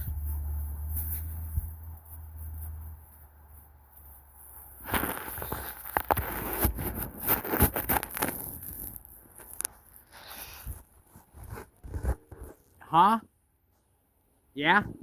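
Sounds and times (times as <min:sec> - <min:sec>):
footsteps crunching snow: 0:00.0 - 0:12.7.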